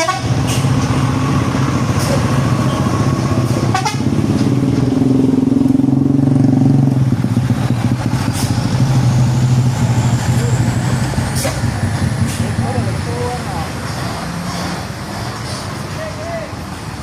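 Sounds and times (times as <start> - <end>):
truck diesel engines passing: 0.0 - 17.0.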